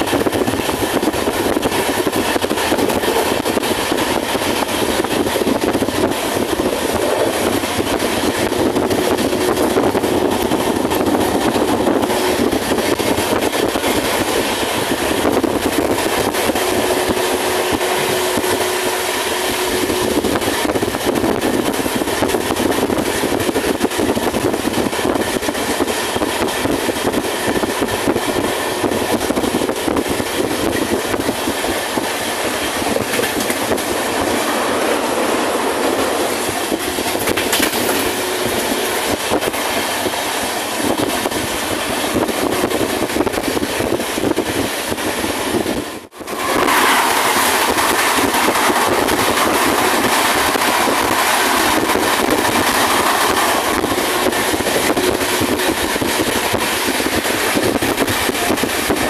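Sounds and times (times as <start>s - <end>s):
train wheels and wind rushing: 0.0s - 59.0s.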